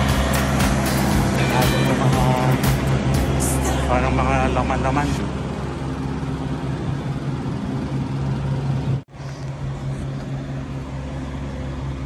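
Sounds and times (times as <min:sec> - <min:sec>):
truck diesel engine humming: 0:00.0 - 0:12.0.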